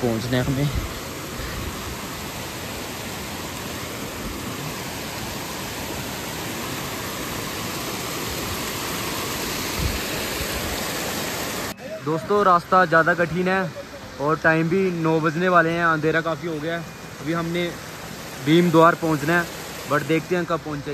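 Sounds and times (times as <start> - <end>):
running water rushing: 0.0 - 20.9.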